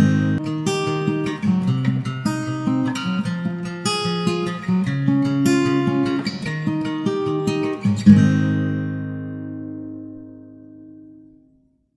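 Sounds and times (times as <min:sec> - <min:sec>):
guitar plucked and strummed: 0:00.0 - 0:11.8.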